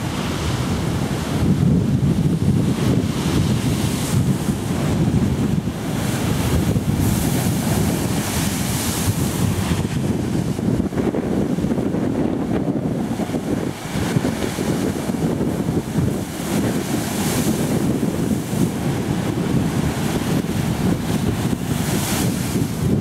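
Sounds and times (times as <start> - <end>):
surf breaking on rocks: 0.0 - 23.0
wind buffeting microphone: 0.0 - 23.0.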